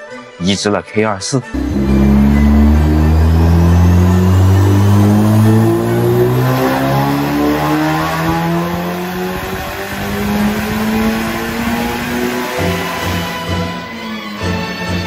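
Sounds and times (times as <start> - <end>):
car engine revving: 1.6 - 15.0.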